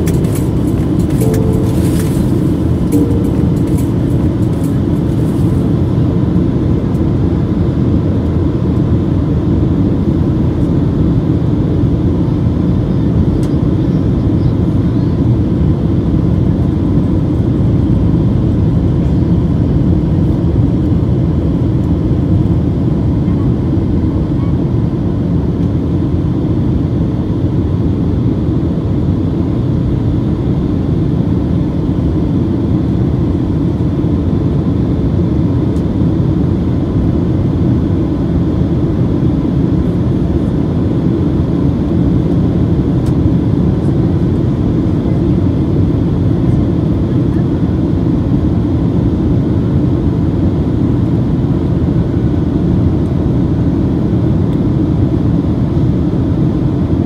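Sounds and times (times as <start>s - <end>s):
airplane cabin engine drone: 0.0s - 57.0s
faint steady whine: 0.0s - 57.0s.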